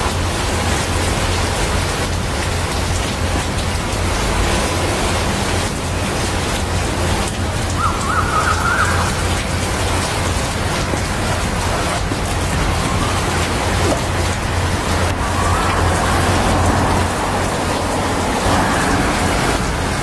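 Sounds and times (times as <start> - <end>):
rain falling on foliage: 0.0 - 20.0.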